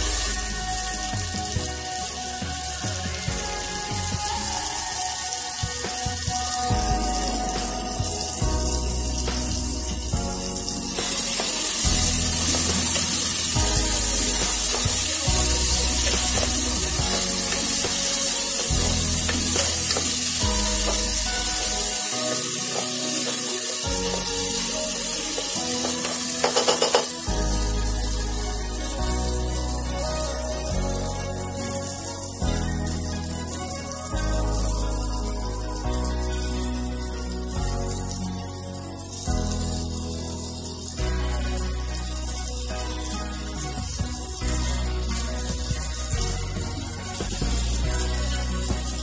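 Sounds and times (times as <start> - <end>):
background music with bass line: 0.0 - 49.0
vegetables sizzling in hot oil: 0.0 - 49.0.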